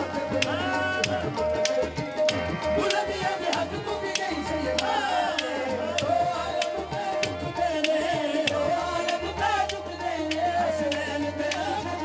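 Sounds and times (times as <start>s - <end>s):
hand drums beating: 0.0s - 12.0s
sustained sung melody: 0.0s - 12.0s.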